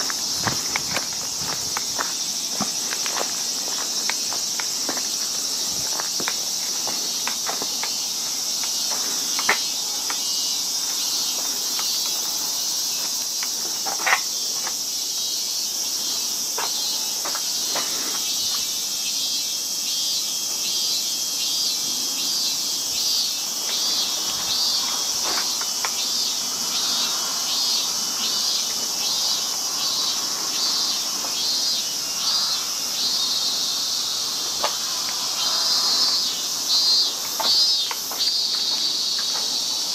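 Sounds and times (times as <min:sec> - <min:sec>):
insects calling at high pitch: 0:00.0 - 0:39.9
pulsing insect call: 0:00.0 - 0:39.9.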